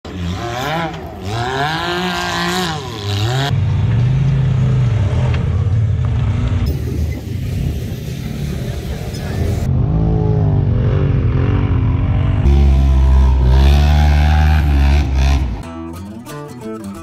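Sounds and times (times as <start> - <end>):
utv engine revving: 0.1 - 7.6, 8.3 - 15.6.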